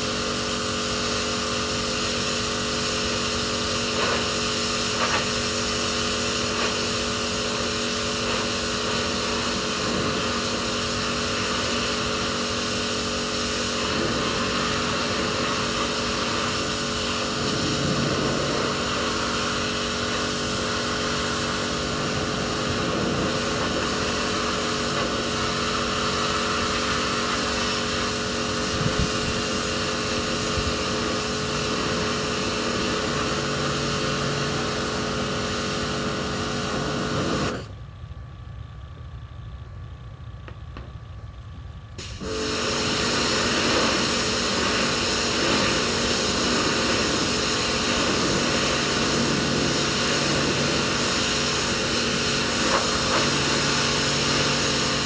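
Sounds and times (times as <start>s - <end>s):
pressure washer motor hum: 0.0s - 37.8s, 41.9s - 55.0s
water jet spraying: 0.1s - 37.6s, 42.0s - 55.0s.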